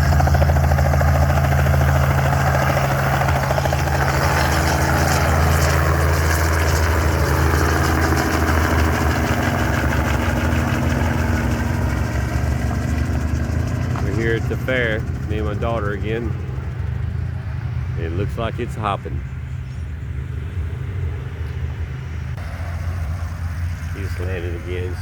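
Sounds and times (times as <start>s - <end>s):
helicopter engine drone: 0.0s - 25.0s
rotor blades beating: 0.0s - 25.0s.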